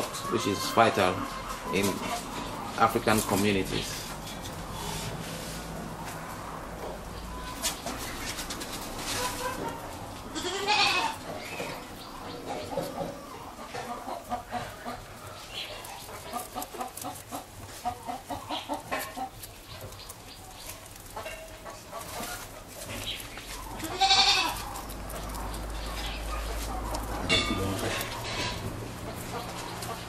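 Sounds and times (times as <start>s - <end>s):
farmyard animal calls: 0.0s - 30.0s.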